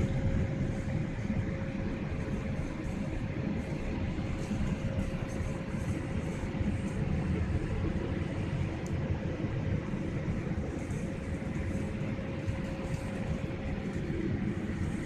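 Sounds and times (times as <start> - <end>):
faint steady hum: 0.0 - 15.0
jet engine and airflow noise: 0.0 - 15.0.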